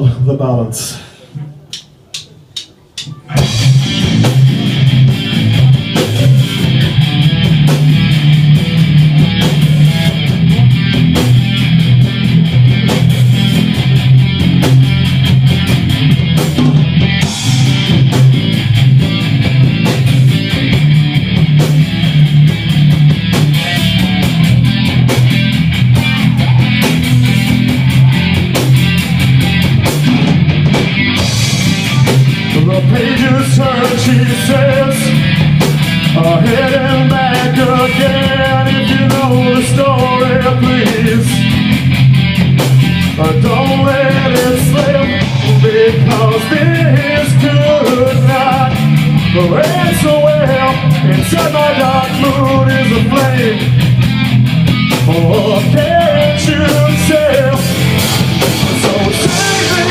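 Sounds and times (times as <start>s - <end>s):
bass guitar: 0.0s - 59.9s
drums: 0.0s - 59.9s
electric guitars: 2.7s - 59.9s.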